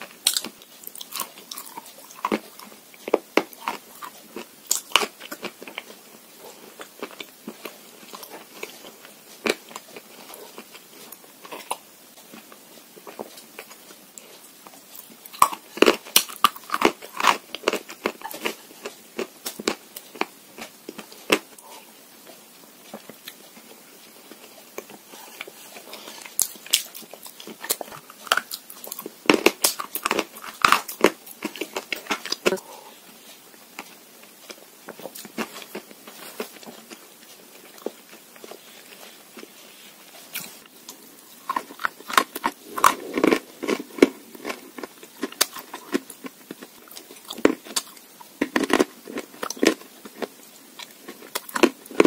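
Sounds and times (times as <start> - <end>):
crisp chewing crunches: 0.0 - 32.6, 33.2 - 52.0.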